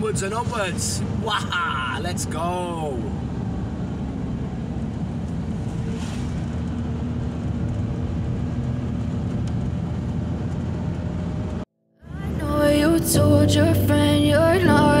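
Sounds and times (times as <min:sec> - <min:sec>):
engine and road rumble in car: 0:00.0 - 0:15.0.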